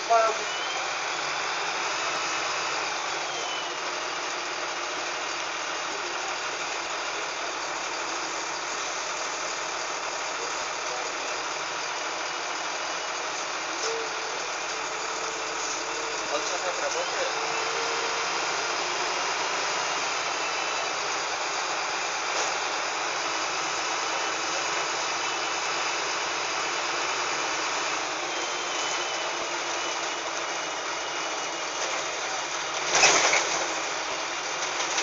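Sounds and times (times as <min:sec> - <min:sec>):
bus engine and road noise: 0:00.0 - 0:35.0.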